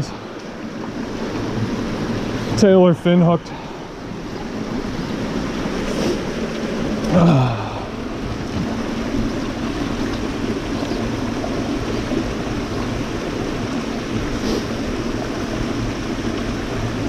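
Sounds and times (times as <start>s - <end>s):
river water rushing over boulders: 0.0s - 17.0s.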